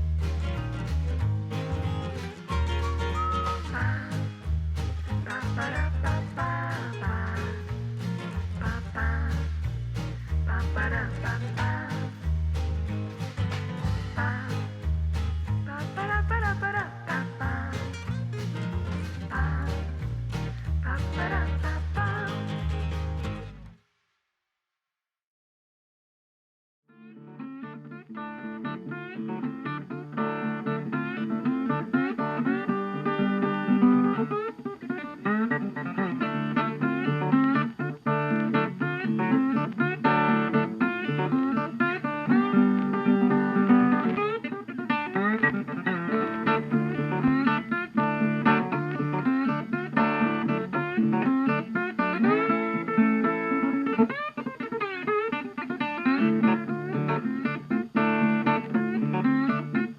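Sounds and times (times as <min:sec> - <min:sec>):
acoustic guitar instrumental: 0:00.0 - 0:23.9, 0:27.0 - 0:59.9.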